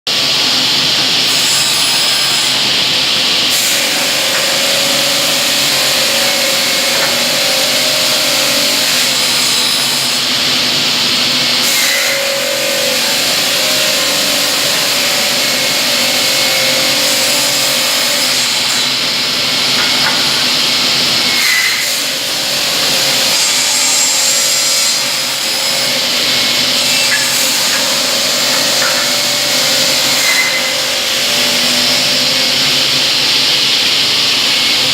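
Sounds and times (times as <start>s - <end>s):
cutting machine sawing wood: 1.1s - 33.5s.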